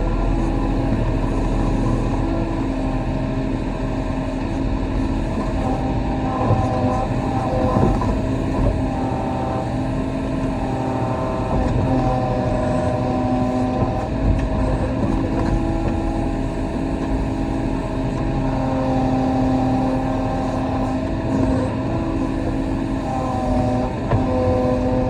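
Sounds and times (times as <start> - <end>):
hydraulic tones shifting pitch: 0.0 - 25.0
mini excavator running: 0.0 - 25.0.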